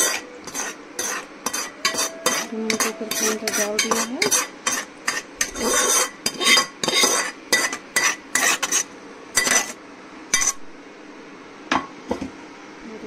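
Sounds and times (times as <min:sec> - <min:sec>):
metal spoon scraping a pot: 0:00.0 - 0:10.6.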